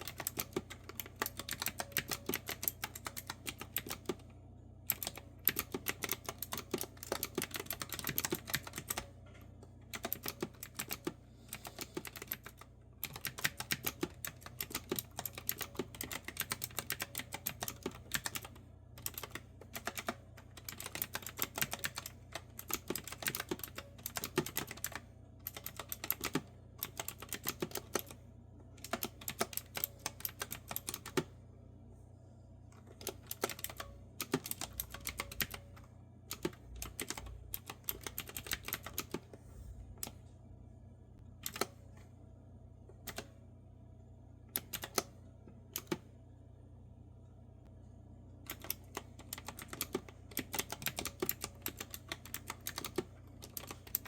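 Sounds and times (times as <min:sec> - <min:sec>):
clicky keyboard typing: 0:00.0 - 0:04.2, 0:04.9 - 0:28.2, 0:28.8 - 0:31.3, 0:32.8 - 0:39.3, 0:41.4 - 0:41.8, 0:44.5 - 0:46.1, 0:48.5 - 0:54.0
faint low hum: 0:00.0 - 0:54.0.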